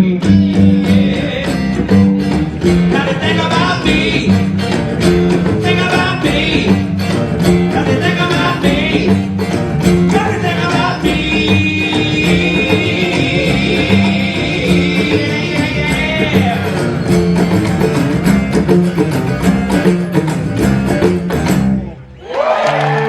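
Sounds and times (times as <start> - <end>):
electric guitar: 0.0 - 23.0
live band instrumental music: 0.0 - 23.0.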